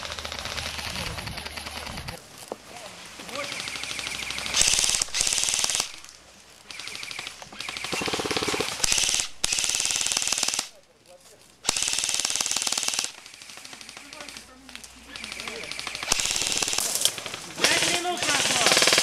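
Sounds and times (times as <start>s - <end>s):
airsoft rifles firing bursts: 0.0s - 2.2s, 3.3s - 10.8s, 11.6s - 19.0s.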